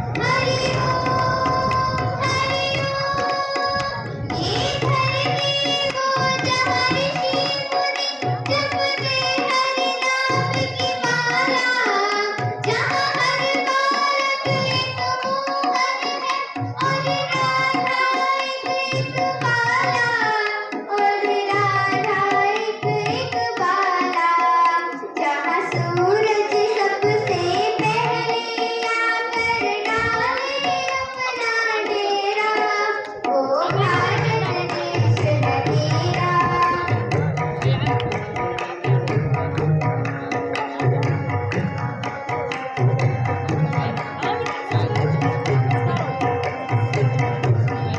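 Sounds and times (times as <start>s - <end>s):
child singing: 0.0s - 47.9s
tabla beat: 0.0s - 47.9s.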